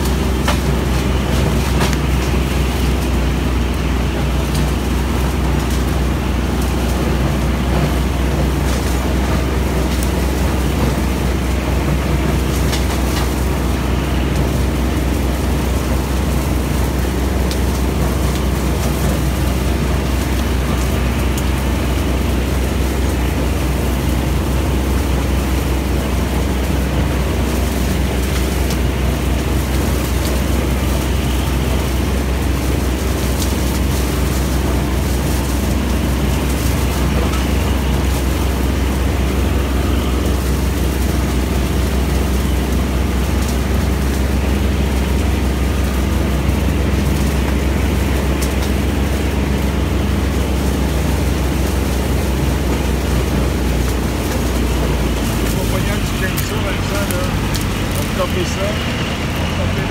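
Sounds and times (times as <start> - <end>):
mowing machine engine droning: 0.0 - 59.9.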